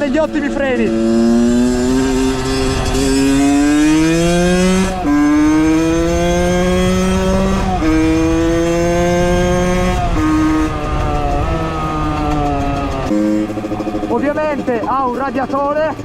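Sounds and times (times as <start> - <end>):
two-stroke engine under load: 0.0 - 16.0.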